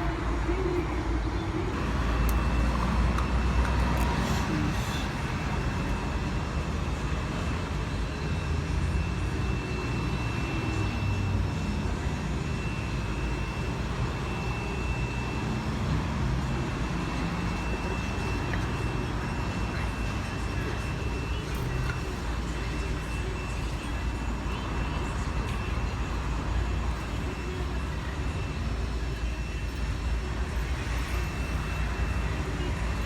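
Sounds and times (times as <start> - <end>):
diesel engine low rumble: 0.0 - 33.0
high whine: 0.0 - 33.0.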